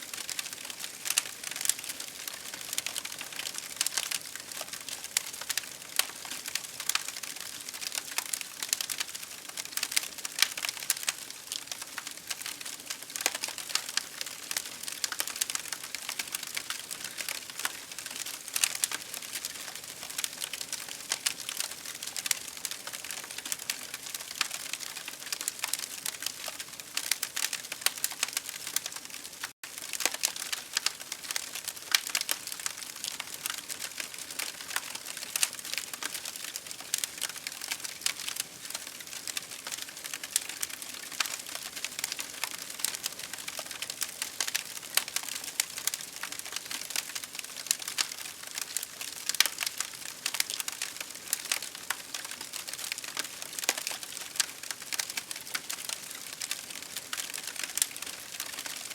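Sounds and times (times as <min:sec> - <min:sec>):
campfire crackling and hissing: 0:00.0 - 0:58.9.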